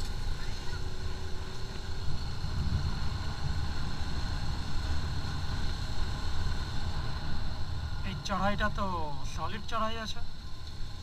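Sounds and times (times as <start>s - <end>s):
wind rumbling on microphone: 0.0s - 9.3s.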